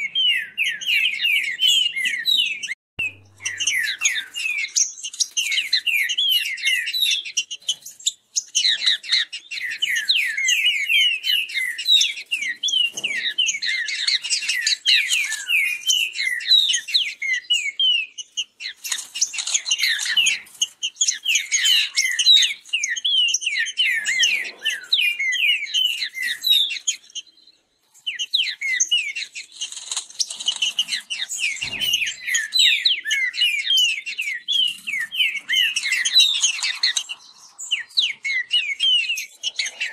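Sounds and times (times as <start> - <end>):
birds singing whistled phrases: 0.0 - 39.9.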